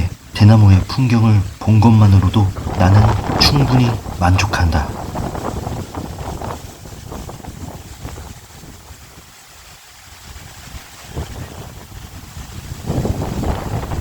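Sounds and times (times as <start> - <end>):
gusty wind: 0.0 - 14.0
wind buffeting microphone: 0.0 - 14.0
bamboo leaves rustling: 0.2 - 14.0.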